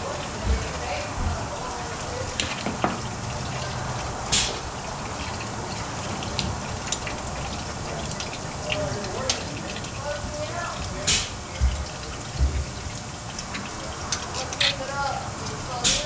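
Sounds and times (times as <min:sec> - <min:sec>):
oil pouring into drain: 0:00.0 - 0:16.0.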